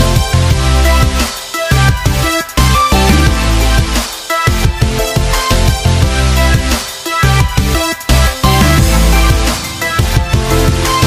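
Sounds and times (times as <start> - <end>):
music with strong bass line: 0.0 - 11.0.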